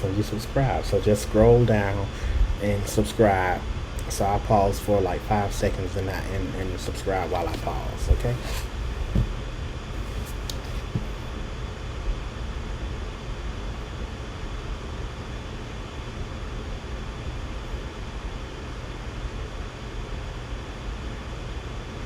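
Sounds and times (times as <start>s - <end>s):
low hum: 0.0s - 18.8s.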